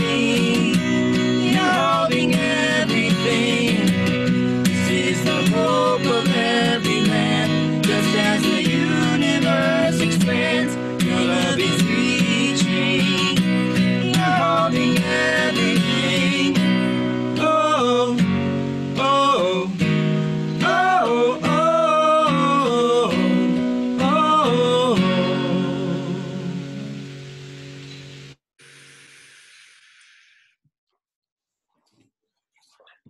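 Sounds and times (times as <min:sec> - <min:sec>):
person singing worship song: 0:00.0 - 0:27.0
strummed acoustic guitar: 0:00.0 - 0:28.3.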